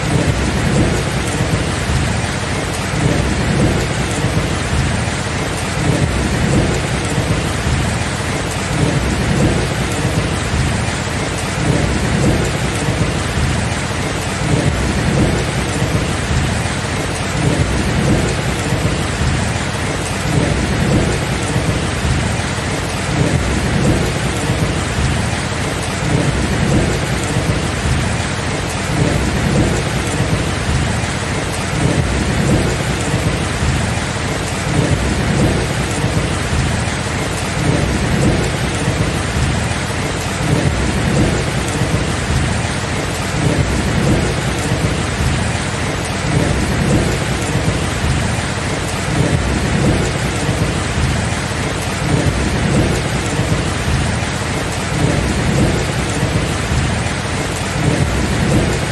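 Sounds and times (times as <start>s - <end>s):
rain pouring: 0.0s - 58.9s
rolling thunder: 0.0s - 58.9s.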